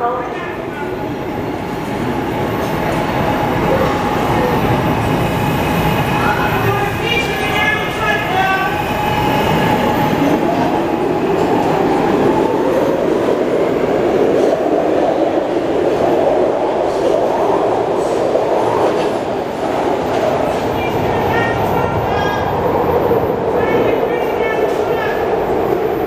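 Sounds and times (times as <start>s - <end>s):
subway train wheels rolling on rail: 0.0s - 26.0s.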